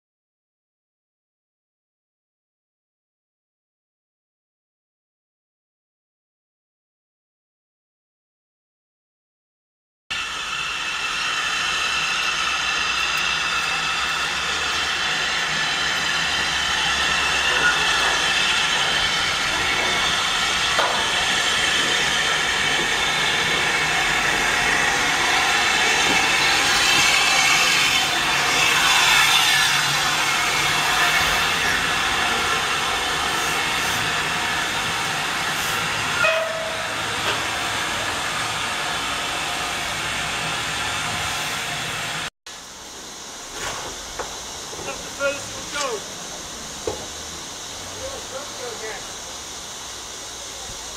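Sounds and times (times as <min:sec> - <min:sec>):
steam locomotive hissing: 0:10.1 - 0:50.9.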